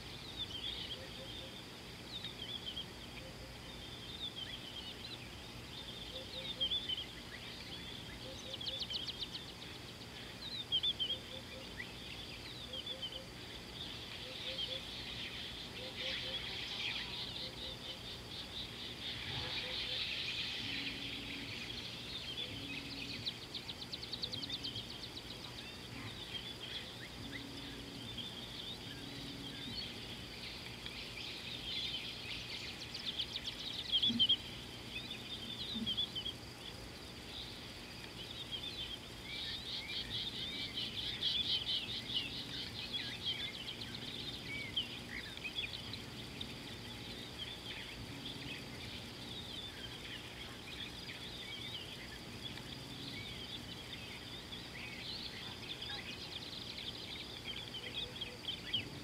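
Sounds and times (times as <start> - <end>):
birds chirping and trilling: 0.0 - 59.0
faint steady background: 0.0 - 59.0.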